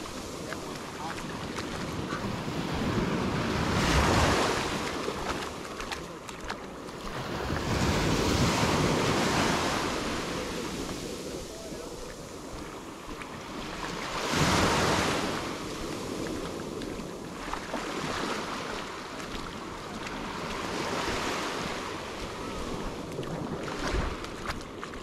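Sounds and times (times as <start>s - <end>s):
wind on microphone: 0.0s - 5.9s, 7.0s - 25.0s
ocean waves washing onto beach: 0.0s - 25.0s.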